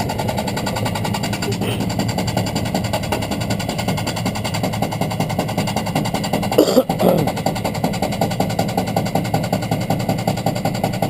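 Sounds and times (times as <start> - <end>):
washing machine drum rattling: 0.0 - 11.0.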